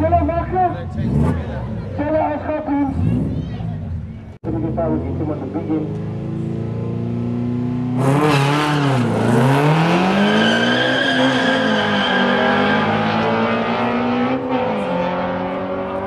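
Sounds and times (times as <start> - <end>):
drag-race car engines accelerating: 0.0 - 16.0.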